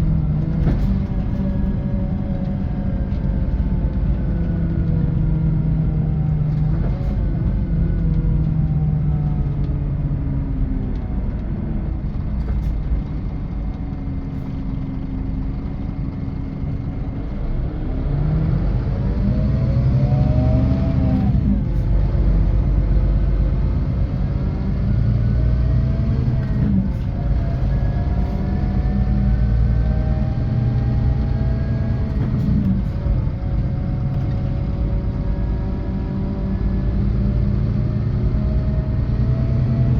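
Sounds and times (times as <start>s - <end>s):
coach diesel engine: 0.0s - 39.9s
road rumble: 0.0s - 39.9s.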